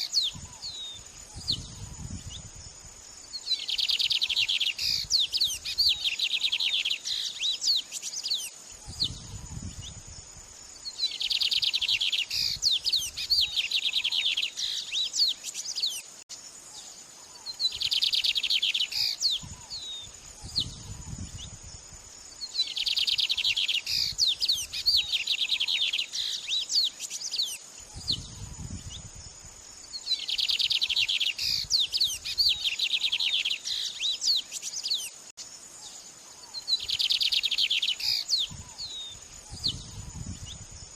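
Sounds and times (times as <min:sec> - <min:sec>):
songbird trilling and chirping: 0:00.0 - 0:40.9.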